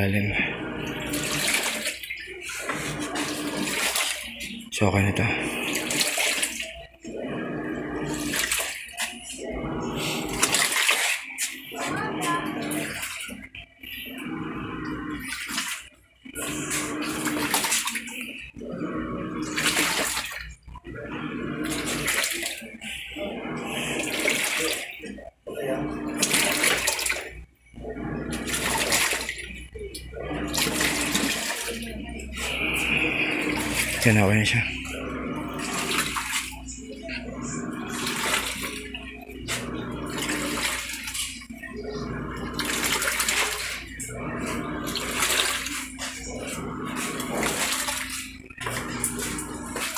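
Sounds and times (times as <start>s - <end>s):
faint motor hum: 0.0s - 49.9s
washing machine sloshing water: 0.0s - 49.9s.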